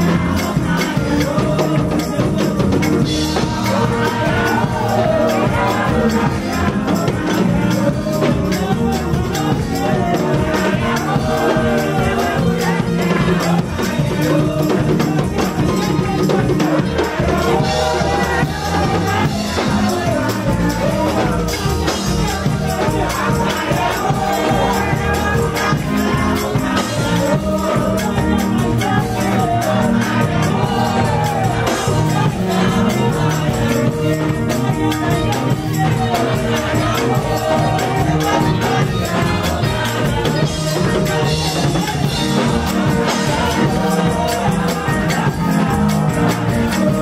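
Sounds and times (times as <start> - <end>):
drums: 0.0 - 47.0
jingling shaken percussion: 0.0 - 47.0
women singing gospel: 0.0 - 47.0.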